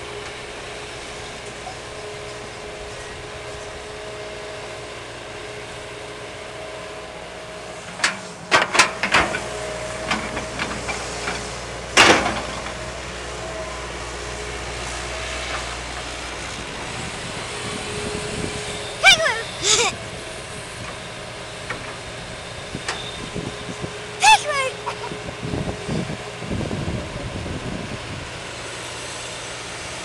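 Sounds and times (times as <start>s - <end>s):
excavator running: 0.0s - 30.0s.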